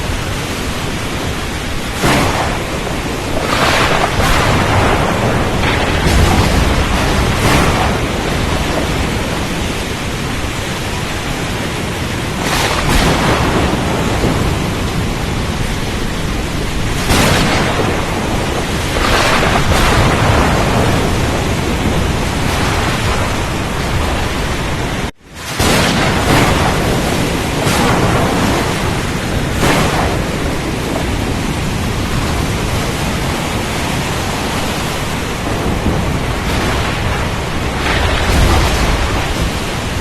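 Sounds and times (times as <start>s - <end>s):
rain: 0.0s - 40.0s
waves: 0.0s - 40.0s
wind roaring: 0.0s - 40.0s.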